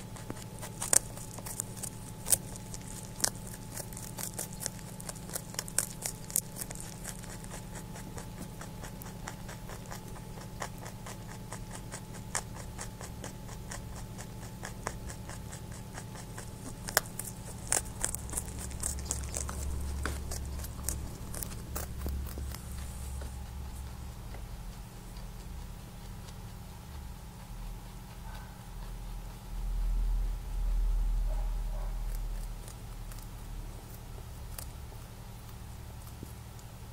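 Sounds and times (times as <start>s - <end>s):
rabbit crunching carrot: 0.0s - 36.9s.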